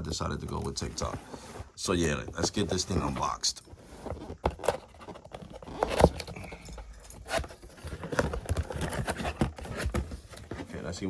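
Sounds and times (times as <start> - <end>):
cardboard box being opened: 0.8 - 10.8.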